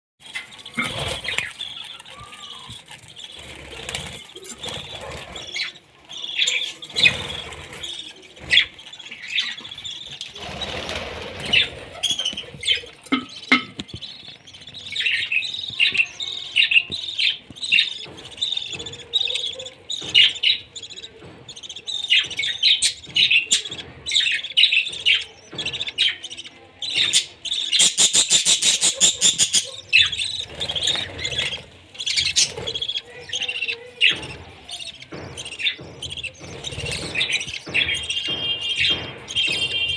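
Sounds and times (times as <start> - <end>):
rustling and knocks: 0.2 - 27.4, 29.2 - 39.9
budgies chirping and squawking: 0.2 - 39.9.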